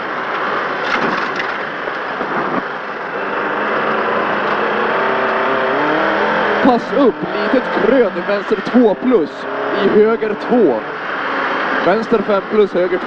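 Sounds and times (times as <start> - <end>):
car engine working hard: 0.0 - 13.0
tyre and road noise: 0.0 - 13.0.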